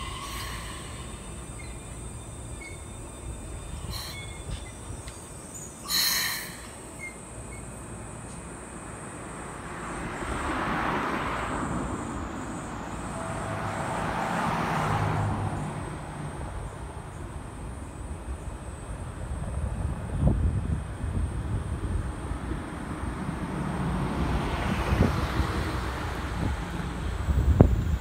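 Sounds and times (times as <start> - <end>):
train wheels rushing on rails: 0.0 - 28.0.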